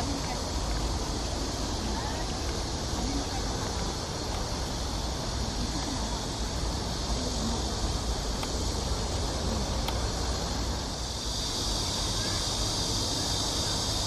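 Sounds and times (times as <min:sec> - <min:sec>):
cicadas droning: 0:00.0 - 0:14.0
faint distant voices: 0:00.0 - 0:14.0.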